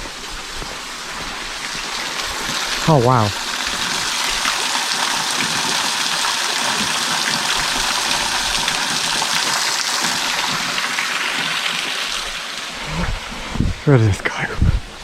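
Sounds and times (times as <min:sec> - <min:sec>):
waterfall rushing: 0:00.0 - 0:14.1.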